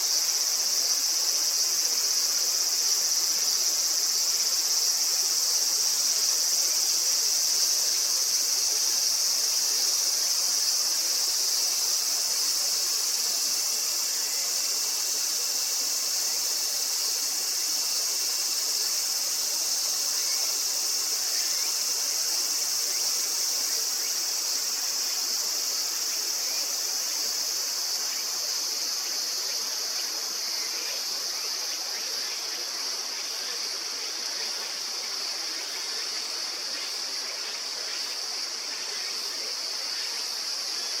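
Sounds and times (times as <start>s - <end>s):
insects chorus: 0.0s - 41.0s.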